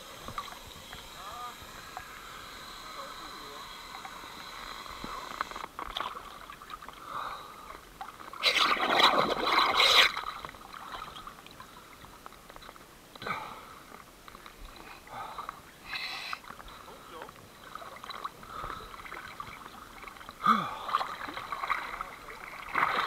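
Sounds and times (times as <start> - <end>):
water splashing and sloshing: 3.4 - 23.0.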